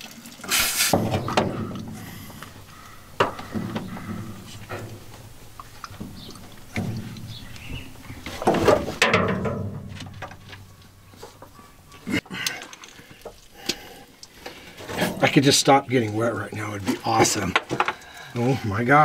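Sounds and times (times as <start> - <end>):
water splashing and dripping: 0.0 - 18.6.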